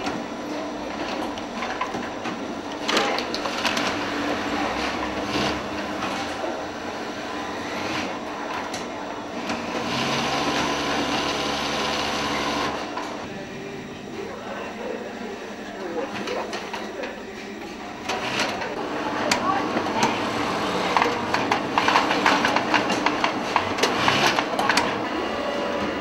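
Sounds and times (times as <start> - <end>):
industrial sewing machines running: 0.0 - 13.5, 17.7 - 26.0.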